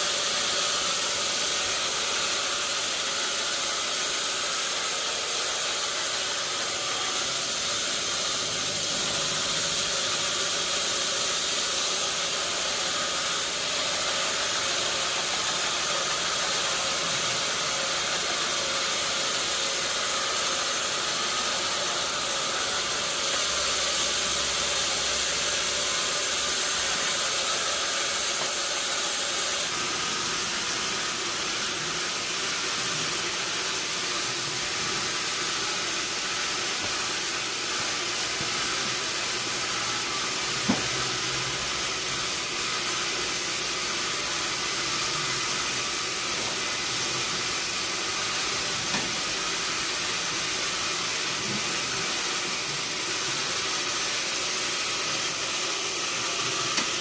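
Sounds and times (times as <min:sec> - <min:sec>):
sawmill machinery hissing: 0:00.0 - 0:57.0
high thin whine: 0:05.5 - 0:53.6.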